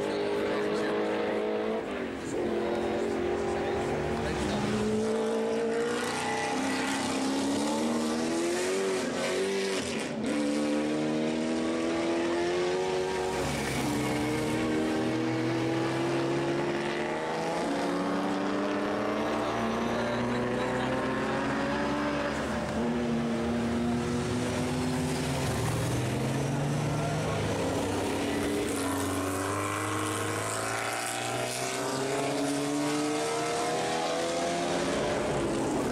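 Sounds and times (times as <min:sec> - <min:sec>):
racing car engines accelerating: 0:00.0 - 0:35.9.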